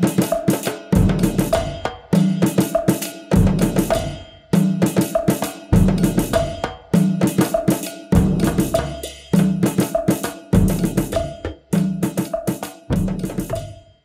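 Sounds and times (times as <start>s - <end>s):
percussion-led beat music: 0.0s - 14.0s.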